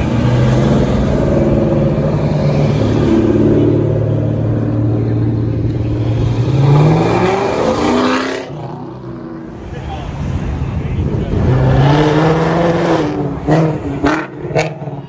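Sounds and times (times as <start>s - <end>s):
car engine revving: 0.0s - 15.0s
cars passing with deep exhaust rumble: 0.0s - 15.0s.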